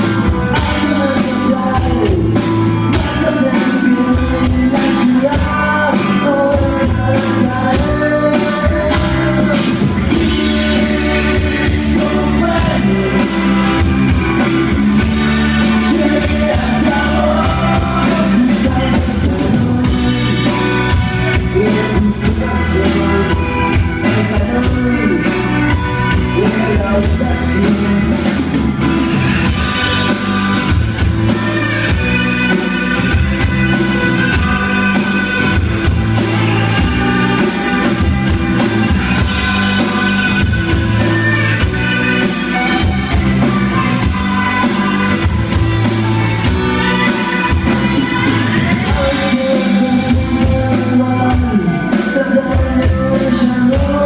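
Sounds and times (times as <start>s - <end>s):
man singing lead: 0.0s - 54.0s
rock band playing: 0.0s - 54.0s.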